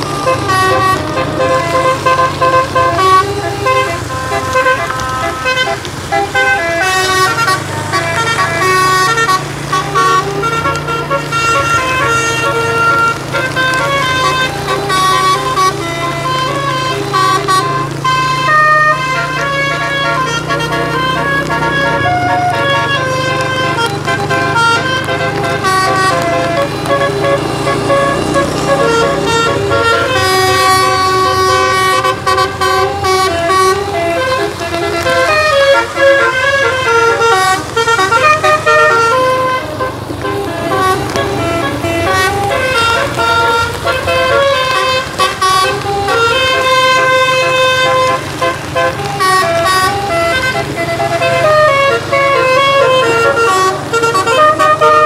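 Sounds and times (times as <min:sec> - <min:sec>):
multi-tone musical bus horn: 0:00.0 - 0:55.0.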